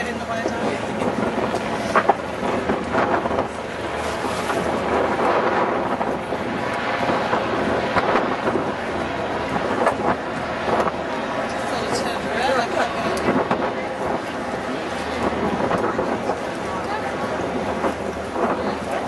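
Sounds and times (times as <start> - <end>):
boat on water: 0.0 - 19.0
wind blowing across microphone: 0.0 - 19.0.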